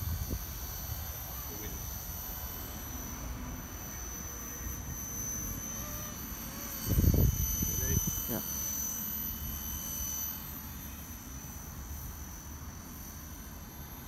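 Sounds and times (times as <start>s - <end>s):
rc helicopter whine: 0.0s - 14.0s.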